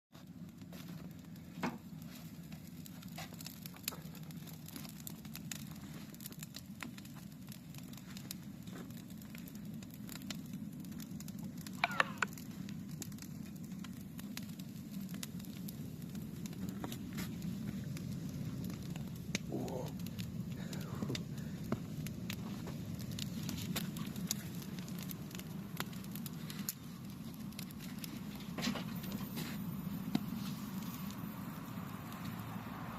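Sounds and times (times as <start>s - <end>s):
fire crackling and popping: 0.2s - 32.9s
flames rushing: 0.2s - 32.9s.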